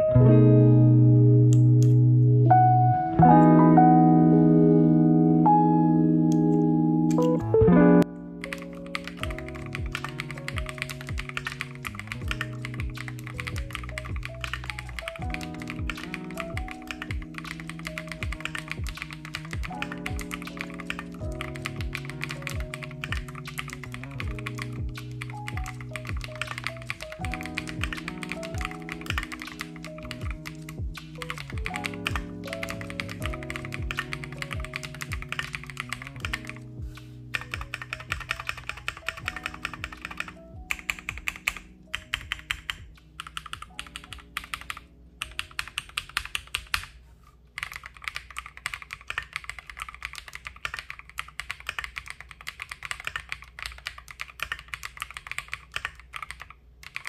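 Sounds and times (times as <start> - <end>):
background music: 0.0 - 47.5
mechanical keyboard typing: 6.3 - 7.6, 8.4 - 47.0, 47.6 - 57.0.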